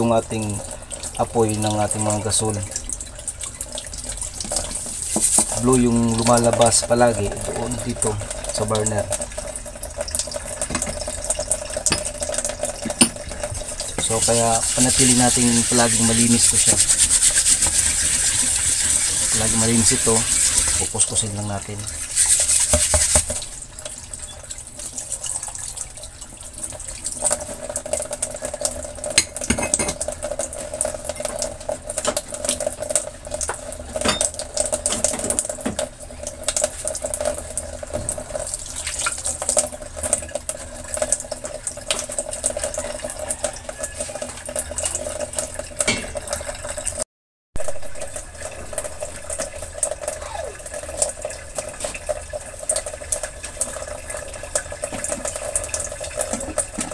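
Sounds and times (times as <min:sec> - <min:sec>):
tap water running into sink: 0:00.0 - 0:47.0, 0:47.6 - 0:56.9.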